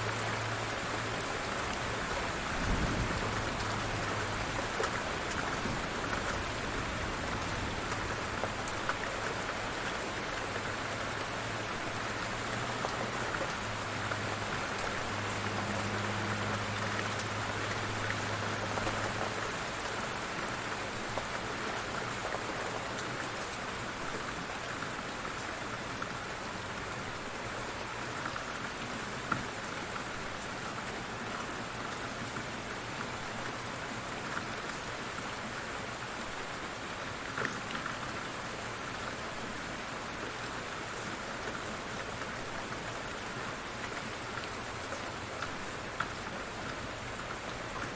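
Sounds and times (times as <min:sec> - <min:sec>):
light rain pattering: 0:00.0 - 0:47.9.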